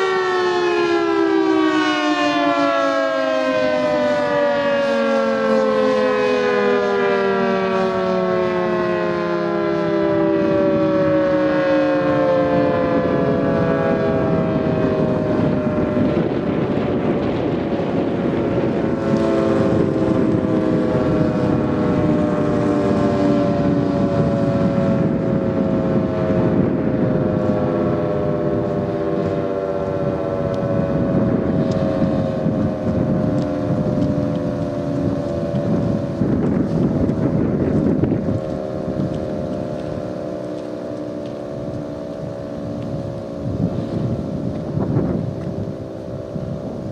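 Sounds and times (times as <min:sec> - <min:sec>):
dual-tone warning siren winding down: 0:00.0 - 0:46.9
wind buffeting microphone: 0:00.0 - 0:46.9.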